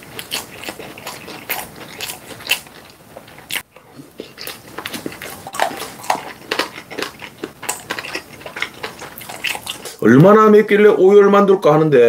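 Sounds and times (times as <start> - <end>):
wet chewing and mouth clicks: 0.0 - 10.0.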